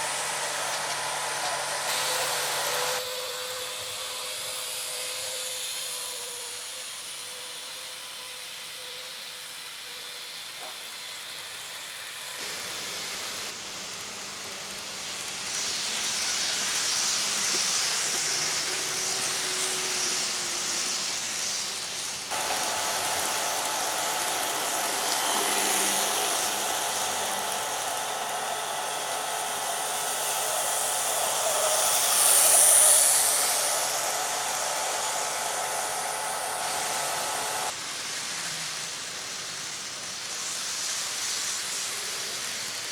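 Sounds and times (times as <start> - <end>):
model train motors whirring: 0.0 - 42.9.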